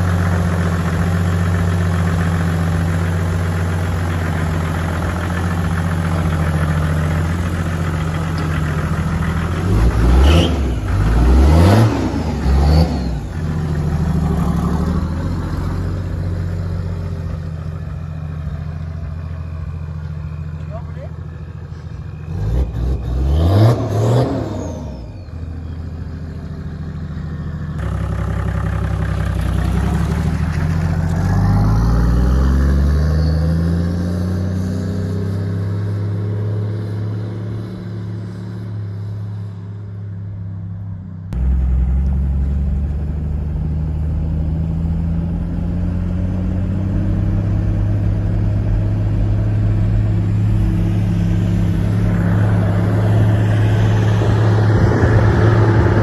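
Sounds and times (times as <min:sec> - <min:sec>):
diesel engine accelerating: 0:00.0 - 0:56.0.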